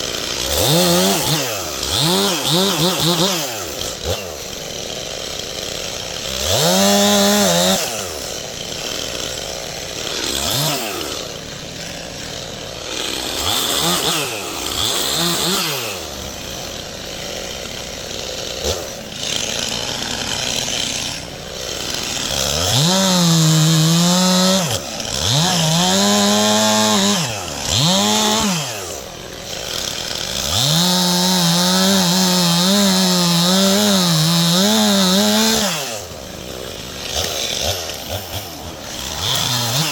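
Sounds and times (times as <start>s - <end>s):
chainsaw cutting branches: 0.0s - 39.9s
chainsaw revving and idling: 0.0s - 39.9s.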